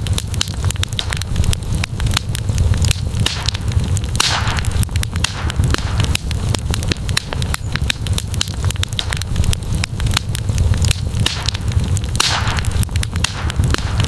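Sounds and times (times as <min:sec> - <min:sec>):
campfire crackling and popping: 0:00.0 - 0:14.0
low rumble: 0:00.0 - 0:14.0.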